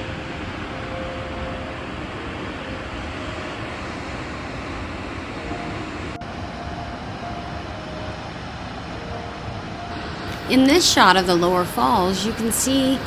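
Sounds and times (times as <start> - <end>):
waterfall roaring: 1.6 - 13.0.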